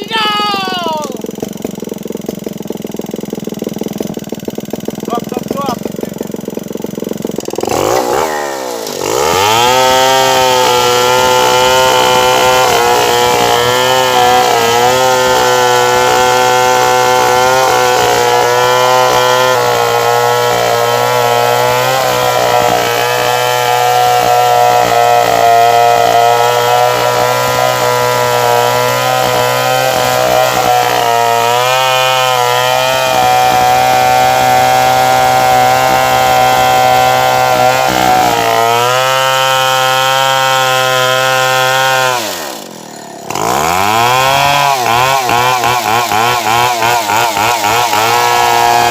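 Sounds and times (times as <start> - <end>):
chainsaw sawing through wood: 0.0 - 48.9.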